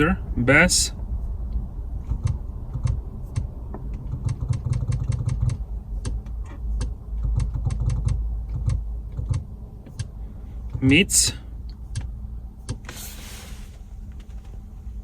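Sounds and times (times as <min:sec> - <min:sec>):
low rumble in car: 0:00.0 - 0:15.0.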